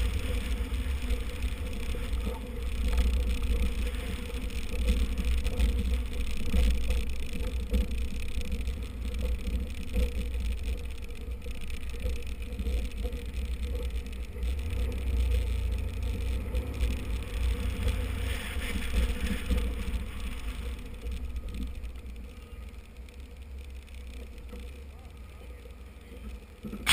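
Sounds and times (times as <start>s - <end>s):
car engine running: 0.0s - 26.9s
tyres on dirt: 0.0s - 26.9s.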